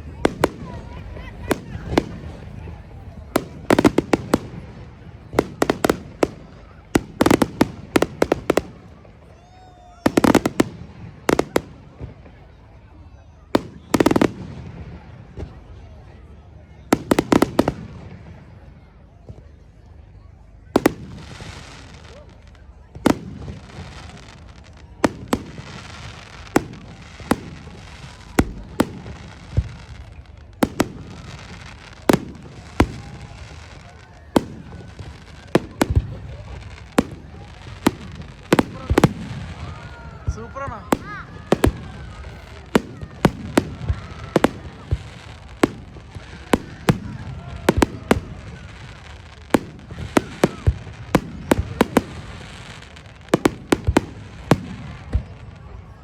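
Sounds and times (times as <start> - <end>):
fireworks cracking bangs: 0.0 - 9.4, 10.0 - 16.1, 16.8 - 18.5, 20.7 - 56.0.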